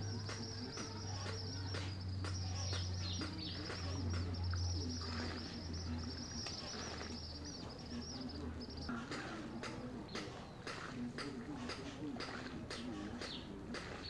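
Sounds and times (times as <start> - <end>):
birds chirping: 0.0 - 14.0
steady low hum: 0.0 - 14.0.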